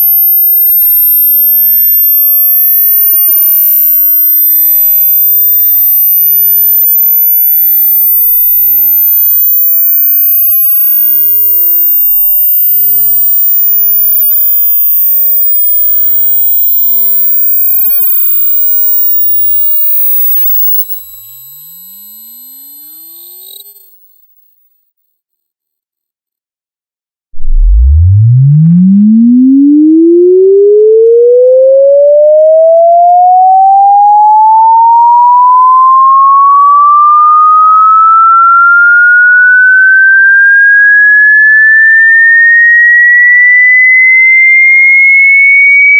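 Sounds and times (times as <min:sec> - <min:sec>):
high sine tone sweeping upward: 0:00.0 - 0:24.2, 0:27.4 - 0:45.9.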